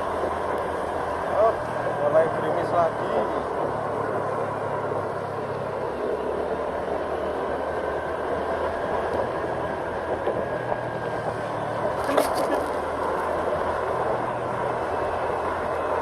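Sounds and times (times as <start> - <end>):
low engine hum: 0.0 - 16.0
road and wind noise: 0.0 - 16.0.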